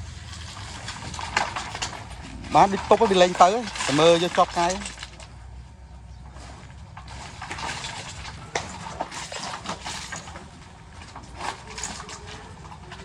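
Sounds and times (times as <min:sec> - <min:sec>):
construction machinery engine rumble: 0:00.0 - 0:13.0.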